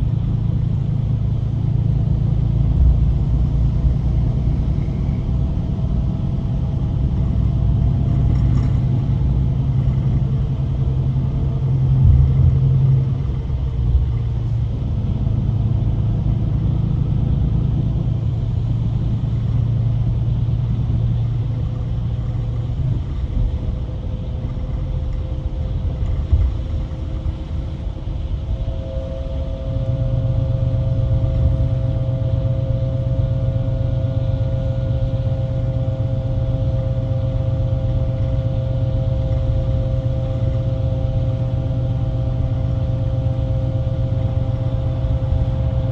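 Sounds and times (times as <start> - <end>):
diesel coach engine hum: 0.0 - 45.9
road rumble: 0.0 - 45.9
steady higher whine: 0.0 - 45.9.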